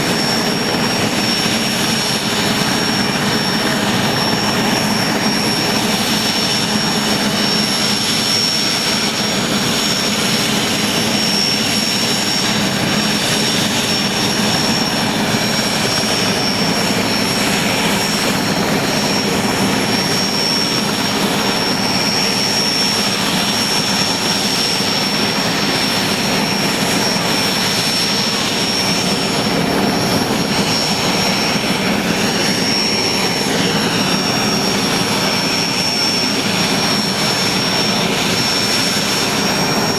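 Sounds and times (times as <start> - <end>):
engine and rotor rumble: 0.0 - 39.9
helicopter turbine whine: 0.0 - 39.9.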